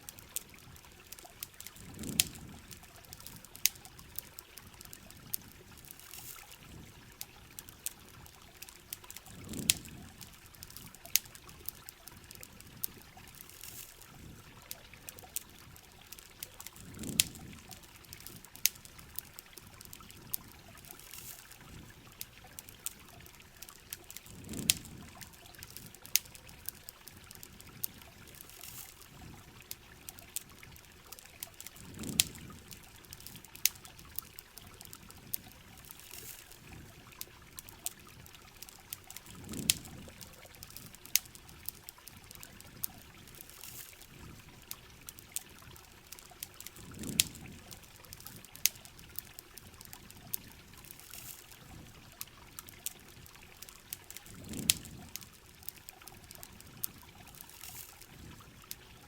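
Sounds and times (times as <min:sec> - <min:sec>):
campfire crackling: 0:00.0 - 0:59.0
rain hissing: 0:00.0 - 0:59.0.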